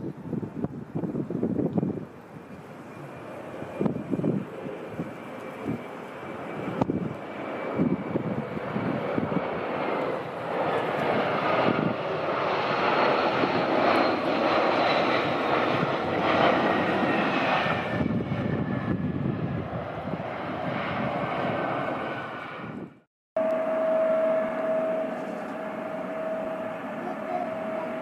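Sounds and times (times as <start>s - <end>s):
jet engine roar and whine: 0.0s - 28.0s.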